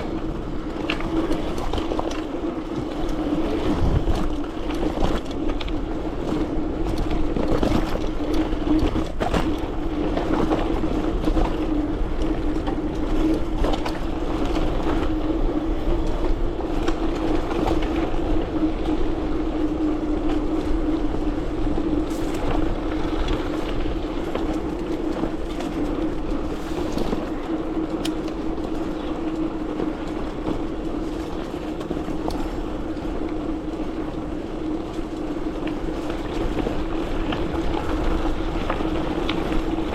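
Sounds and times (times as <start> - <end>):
bike riding on trail: 0.0 - 39.9.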